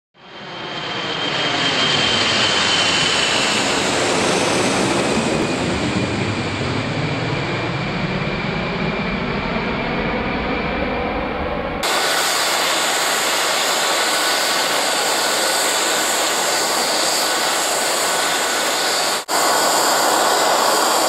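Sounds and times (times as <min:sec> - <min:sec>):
high jet whine: 0:00.2 - 0:21.0
jet plane passing overhead: 0:00.2 - 0:21.0.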